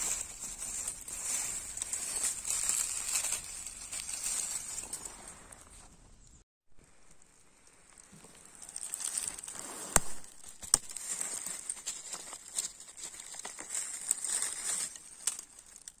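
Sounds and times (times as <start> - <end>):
dry leaves crackling and rustling: 0.0 - 5.9, 7.1 - 16.0.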